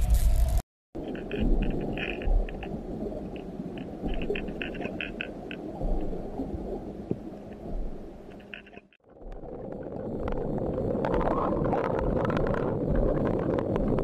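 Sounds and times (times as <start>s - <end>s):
underwater water noise: 0.0s - 14.0s.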